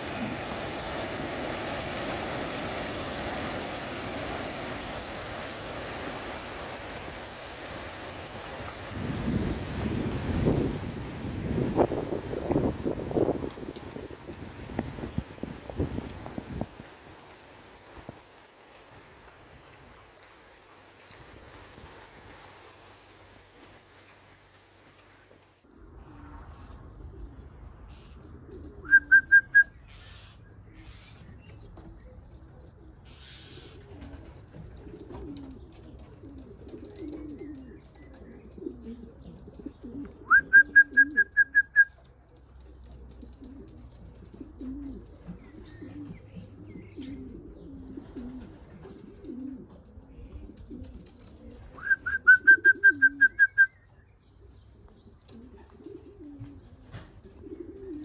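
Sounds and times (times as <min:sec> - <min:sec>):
pigeons cooing: 0:00.0 - 0:20.2, 0:25.7 - 0:30.1, 0:32.8 - 0:42.0, 0:42.6 - 0:53.8, 0:54.4 - 0:58.0.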